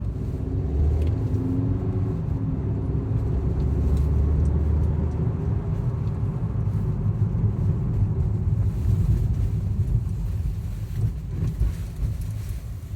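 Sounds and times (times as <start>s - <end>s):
car engine and road rumble: 0.0s - 12.9s.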